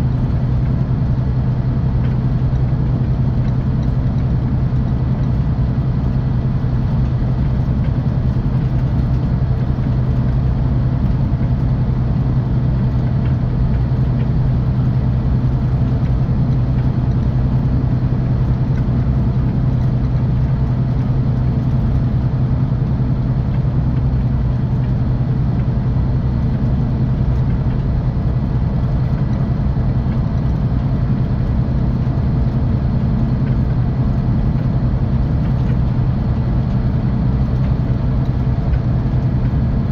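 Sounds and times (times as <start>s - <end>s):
coach diesel engine drone: 0.0s - 39.9s
road and tyre noise: 0.0s - 39.9s.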